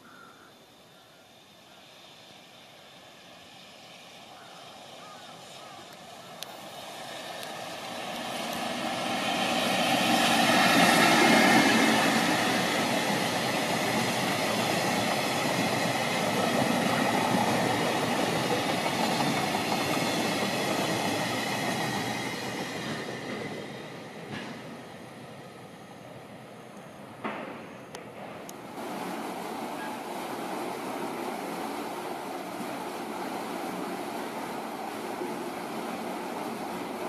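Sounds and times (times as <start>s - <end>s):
locomotive passing: 1.3s - 37.0s.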